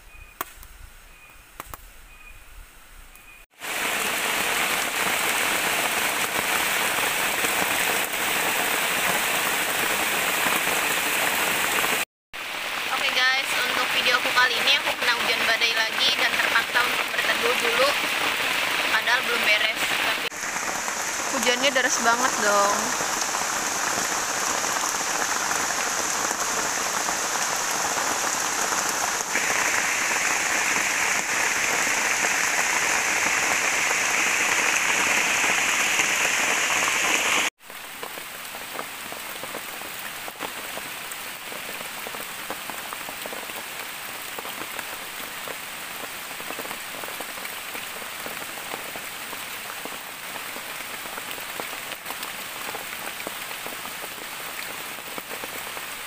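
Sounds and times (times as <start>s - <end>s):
rain falling on foliage: 3.5s - 56.0s.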